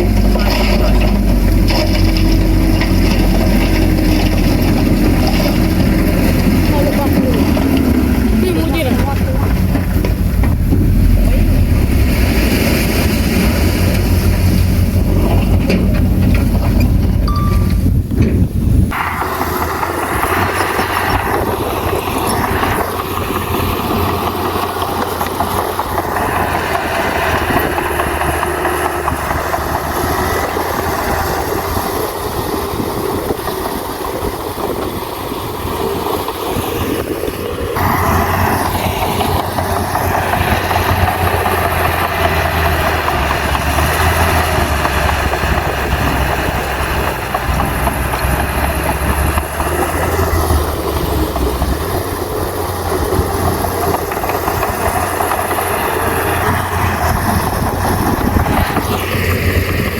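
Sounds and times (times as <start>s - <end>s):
bulldozer diesel engine clattering: 0.0s - 59.9s.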